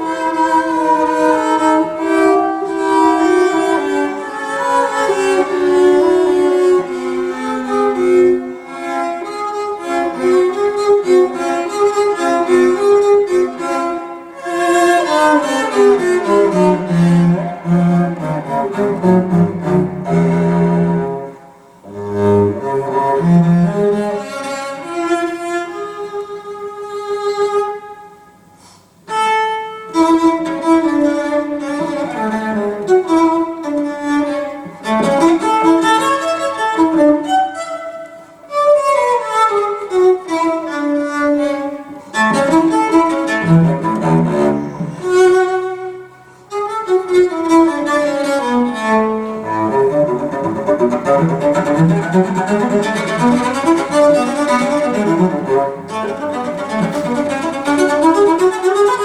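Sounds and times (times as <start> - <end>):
cello music through loudspeakers: 0.0 - 59.0.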